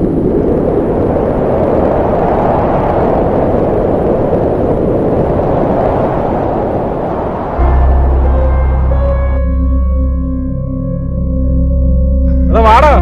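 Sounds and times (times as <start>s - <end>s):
loud steady rumbling: 0.0s - 13.0s.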